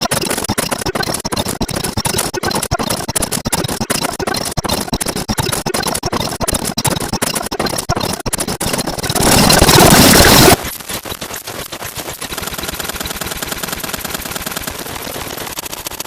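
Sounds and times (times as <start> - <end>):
rapid electronic crackling clicks: 0.0 - 16.0.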